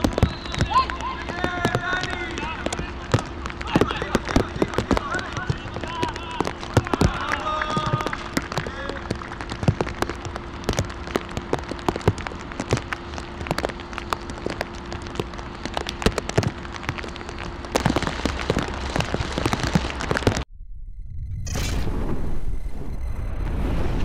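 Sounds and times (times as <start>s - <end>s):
heavy rain falling: 0.0s - 20.4s.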